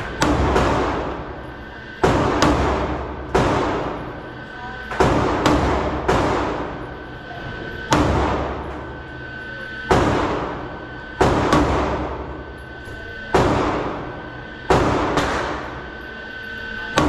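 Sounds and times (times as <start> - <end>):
pistol shots with ringing echo: 0.0 - 17.0.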